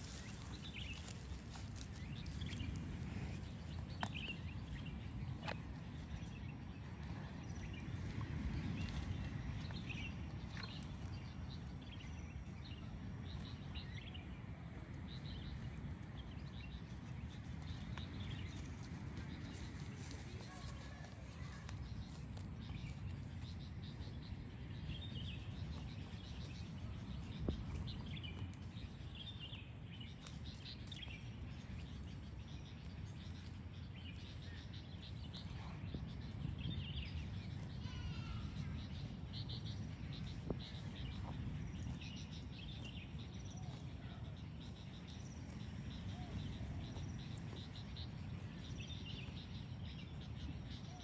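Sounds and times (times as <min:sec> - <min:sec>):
birds chirping: 0:00.0 - 0:51.0
low background rumble: 0:00.0 - 0:51.0.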